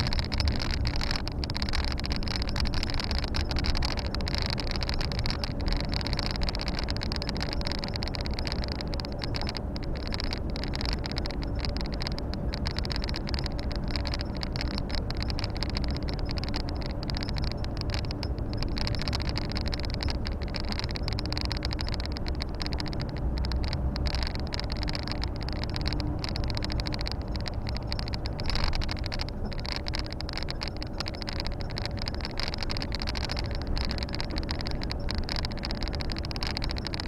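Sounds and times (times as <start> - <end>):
road and tyre noise: 0.0 - 37.0.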